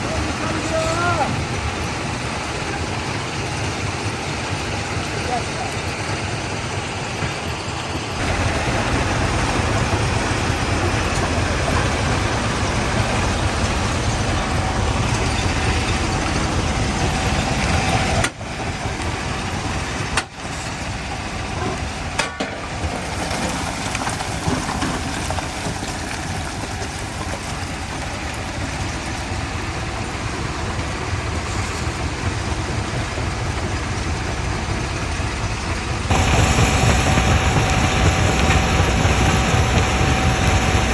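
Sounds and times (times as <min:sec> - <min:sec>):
engine noise: 0:00.0 - 0:40.9.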